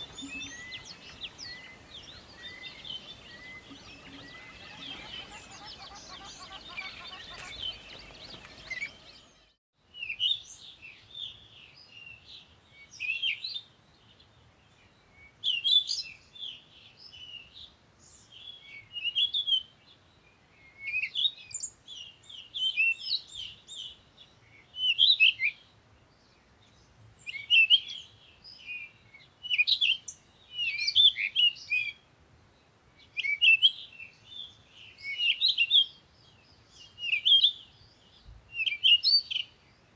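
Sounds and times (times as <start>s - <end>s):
background noise: 0.0s - 39.9s
songbirds chirping: 0.0s - 39.9s.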